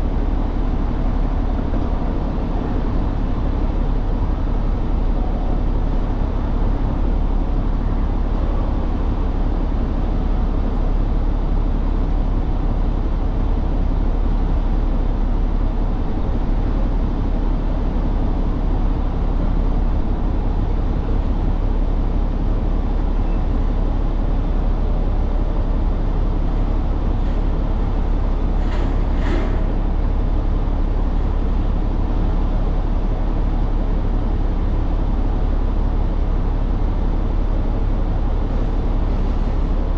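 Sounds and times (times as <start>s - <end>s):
truck engine rumble: 0.0s - 39.9s.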